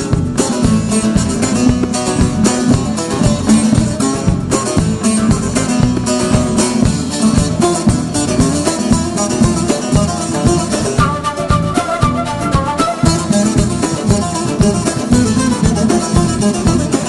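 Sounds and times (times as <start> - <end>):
percussion beat: 0.0 - 17.0
plucked-string folk melody: 0.0 - 17.0.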